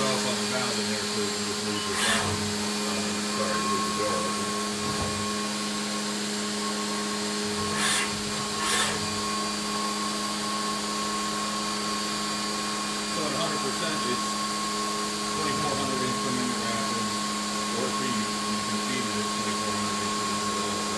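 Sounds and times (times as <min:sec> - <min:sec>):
milling machine spindle whine: 0:00.0 - 0:20.9.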